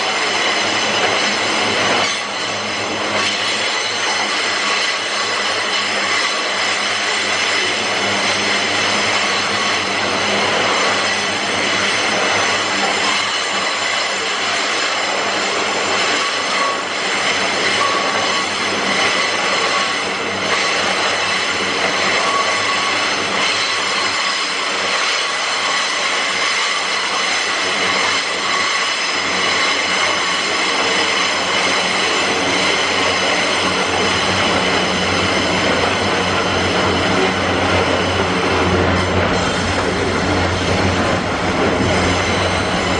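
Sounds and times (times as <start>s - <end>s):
train wagons on rails: 0.0s - 42.9s
high ringing tone: 0.1s - 38.4s.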